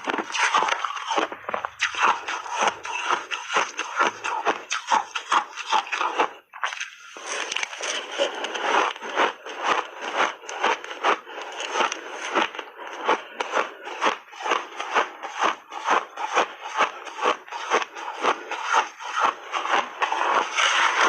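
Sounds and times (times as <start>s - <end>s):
person chewing crunchy ice: 0.0s - 21.0s.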